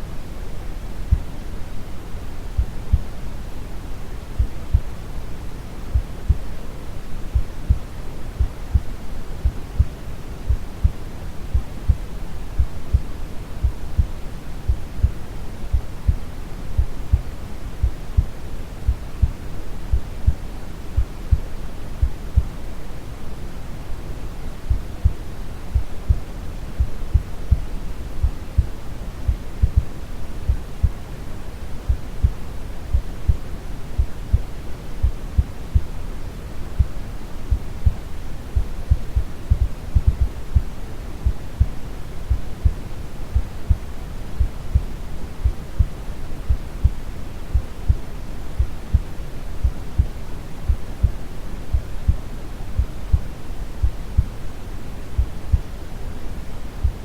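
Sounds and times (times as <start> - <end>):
brown noise hiss: 0.0 - 57.0
soft heartbeat thumps: 1.1 - 1.5, 2.5 - 3.1, 4.4 - 5.0, 5.9 - 6.6, 7.3 - 22.6, 24.7 - 31.1, 31.8 - 36.0, 36.8 - 54.5, 55.2 - 55.8.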